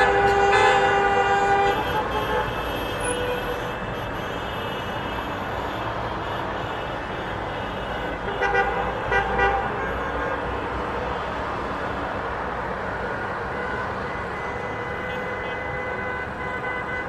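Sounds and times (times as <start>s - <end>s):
car horns honking: 0.0s - 11.4s, 13.0s - 17.0s
street noise: 0.0s - 17.0s.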